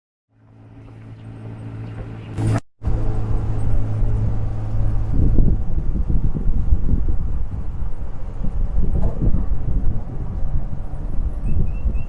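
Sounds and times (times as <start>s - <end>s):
tuk-tuk engine humming: 0.3s - 12.0s
wind rumbling on microphone: 0.8s - 12.0s.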